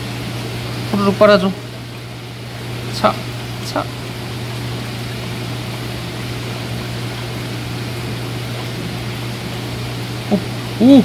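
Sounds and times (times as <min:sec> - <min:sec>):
pump humming: 0:00.0 - 0:11.0.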